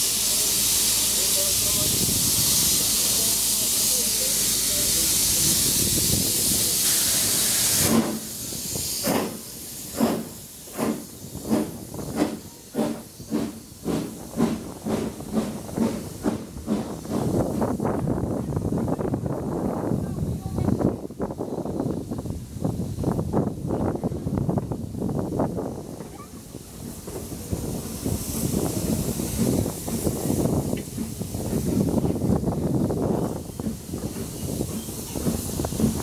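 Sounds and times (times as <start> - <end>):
loud steam hiss: 0.0 - 36.0
steam locomotive exhaust beats: 0.0 - 36.0.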